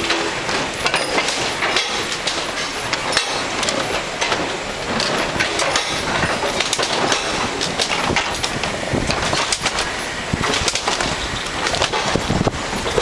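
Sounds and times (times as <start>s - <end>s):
car tyres rattling over bridge boards: 0.0s - 13.0s.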